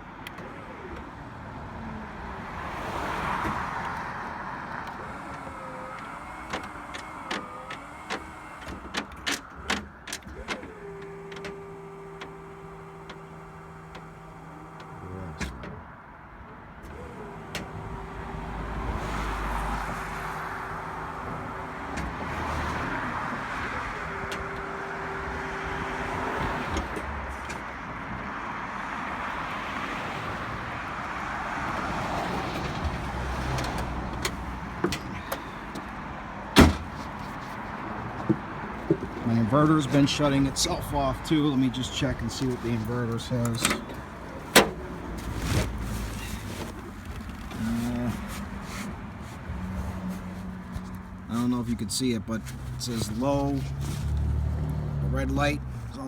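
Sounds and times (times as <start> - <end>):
hydraulic pump motor whining: 0.0 - 51.5.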